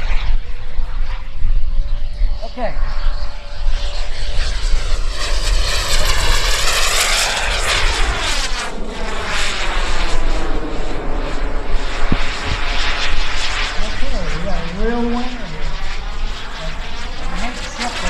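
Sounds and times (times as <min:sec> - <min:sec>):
model jet turbine whine: 0:00.0 - 0:18.0.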